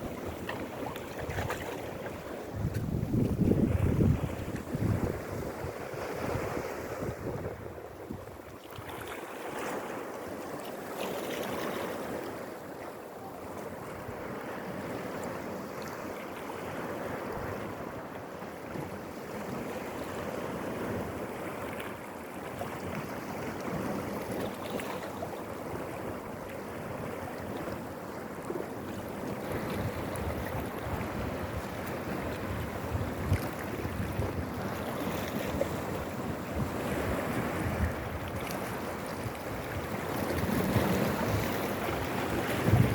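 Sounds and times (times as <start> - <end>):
waves breaking on rocks and pebbles: 0.0 - 12.6, 18.9 - 42.9.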